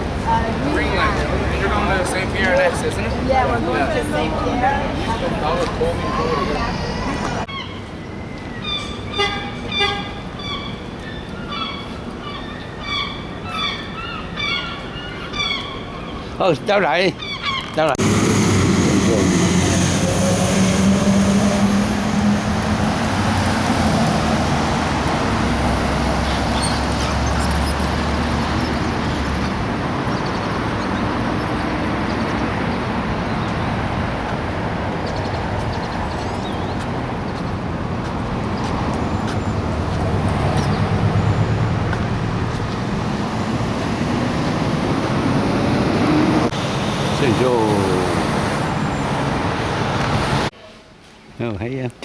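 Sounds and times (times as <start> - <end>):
vehicle road noise: 0.0 - 50.6.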